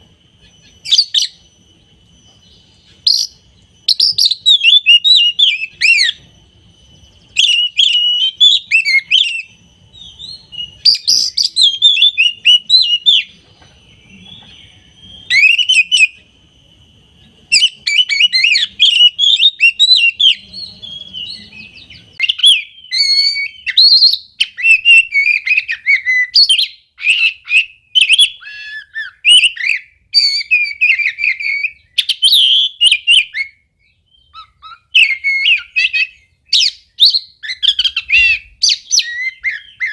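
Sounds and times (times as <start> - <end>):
bird whistling song: 0.0 - 39.9.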